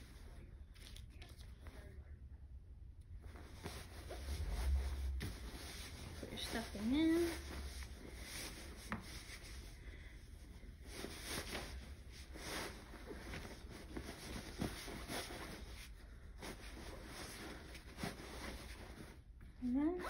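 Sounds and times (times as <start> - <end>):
fabric rustling and rubbing: 3.2 - 20.0.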